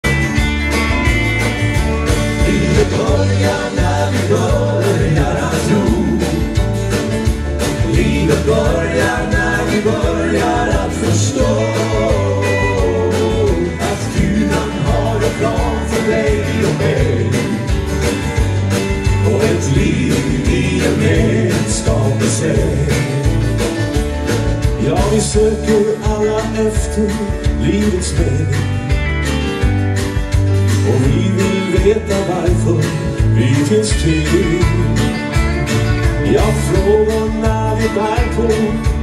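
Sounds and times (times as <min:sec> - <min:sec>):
bass line: 0:00.0 - 0:39.0
country gospel band playing: 0:00.0 - 0:39.0
steady drum beat: 0:00.0 - 0:39.0.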